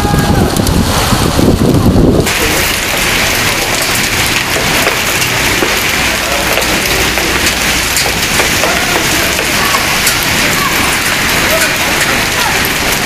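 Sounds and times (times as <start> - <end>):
hail and rain pattering: 0.0 - 13.0.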